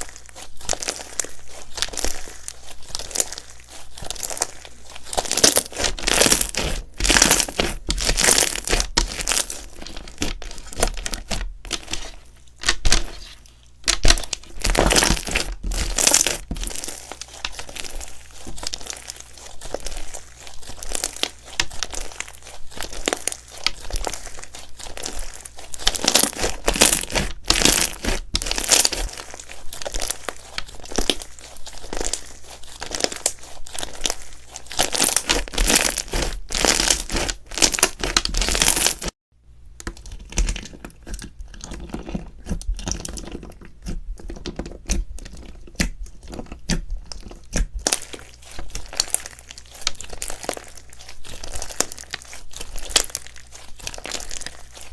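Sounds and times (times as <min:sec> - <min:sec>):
slime clicking and crackling: 0:00.0 - 0:39.2, 0:40.0 - 0:54.9.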